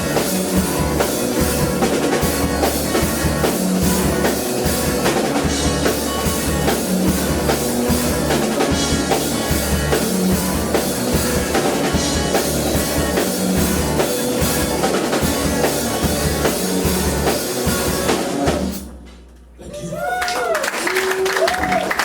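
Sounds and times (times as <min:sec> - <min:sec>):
live band playing: 0:00.0 - 0:19.1.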